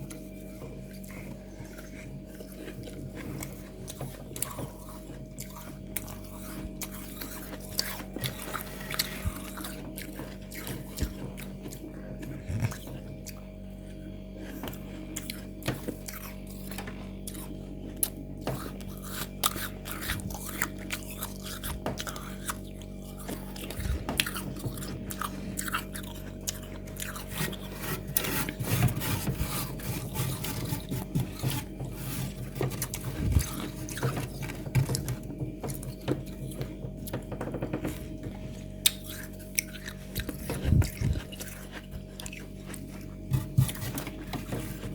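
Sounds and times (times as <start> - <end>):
crunching and chewing frost: 0.0 - 44.9
steady low hum: 0.0 - 44.9.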